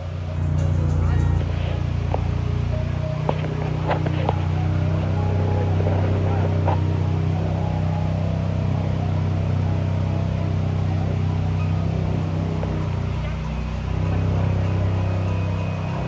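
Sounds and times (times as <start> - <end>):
car engine idling: 0.0 - 16.0
faint voices: 0.0 - 16.0.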